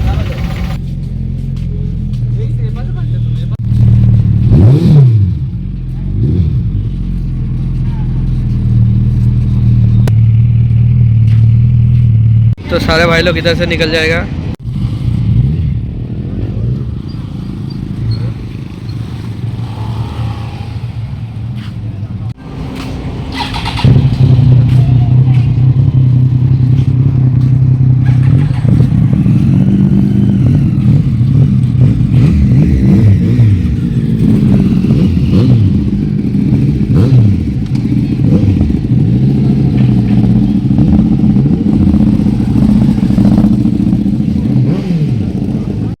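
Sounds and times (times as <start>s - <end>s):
motorcycle engines revving: 0.0s - 46.0s.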